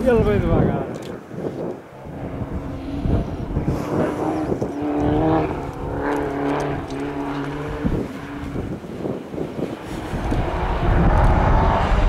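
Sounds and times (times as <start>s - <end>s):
car engine accelerating: 2.0s - 12.0s.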